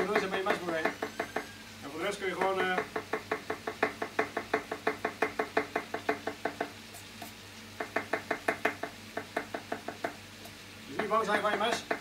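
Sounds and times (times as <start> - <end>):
knife chopping on wooden board: 0.0 - 1.5, 2.4 - 10.2, 11.0 - 12.0.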